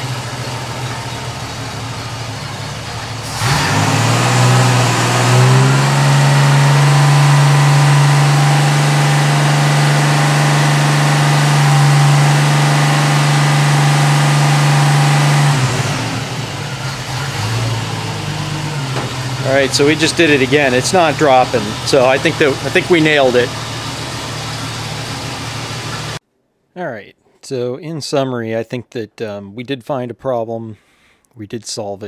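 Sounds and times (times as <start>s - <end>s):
car engine idling and revving: 0.0s - 26.2s.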